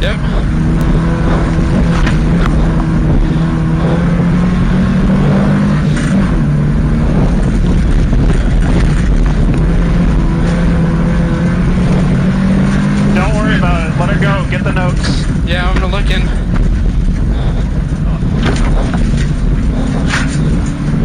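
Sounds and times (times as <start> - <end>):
car engine under load: 0.0 - 21.0
tyre and road noise: 0.0 - 21.0.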